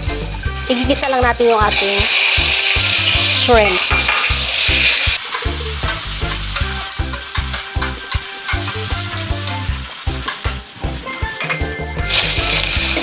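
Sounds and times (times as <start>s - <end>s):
shrimp sizzling in oil: 1.6s - 13.0s.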